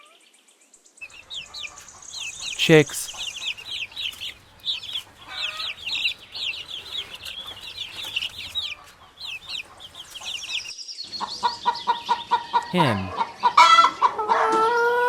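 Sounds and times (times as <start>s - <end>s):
chicks peeping: 1.0s - 14.5s.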